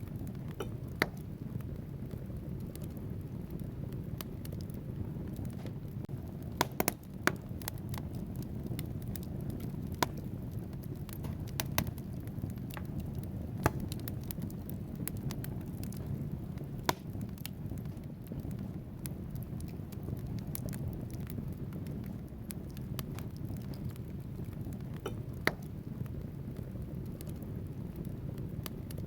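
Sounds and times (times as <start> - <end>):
flames rumbling: 0.0 - 29.0
logs crackling and popping: 0.0 - 29.0.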